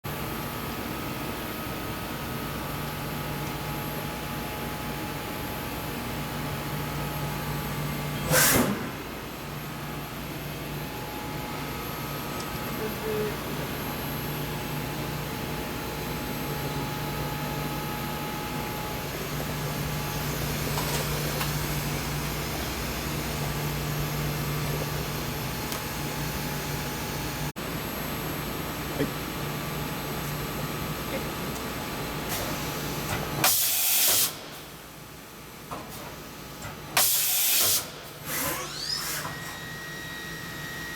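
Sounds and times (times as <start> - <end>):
machining center humming: 0.1 - 33.4.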